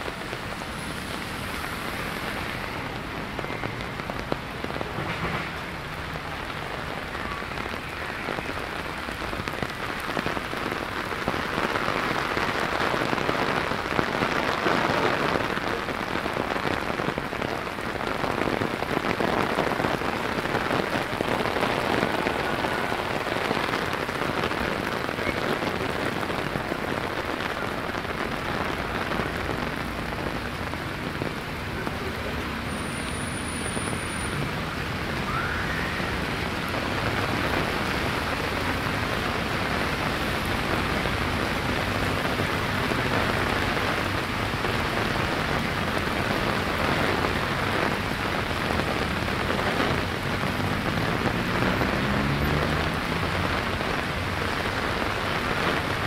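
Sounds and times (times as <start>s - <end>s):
rain splashing on street: 0.0s - 56.0s.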